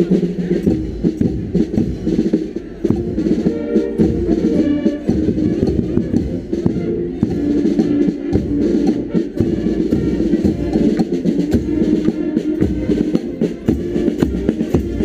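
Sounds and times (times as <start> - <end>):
bass and snare drums beat: 0.0 - 15.0
brass street band playing: 0.0 - 15.0.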